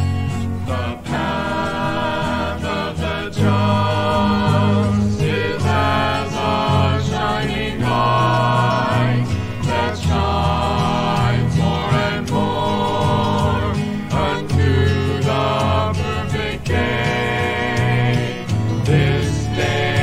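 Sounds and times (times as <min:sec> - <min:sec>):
vocal group singing gospel: 0:00.0 - 0:20.0.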